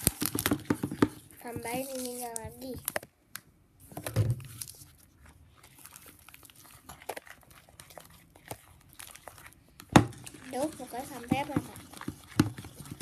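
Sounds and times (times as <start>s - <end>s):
slime squelching and scraping: 0.0s - 3.1s, 3.8s - 13.0s.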